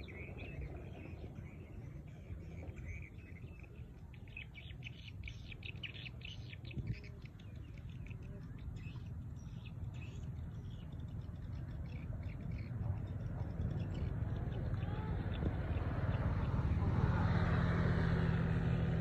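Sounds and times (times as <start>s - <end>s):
birds chirping: 0.0s - 17.4s
steady low rumble: 0.0s - 19.0s.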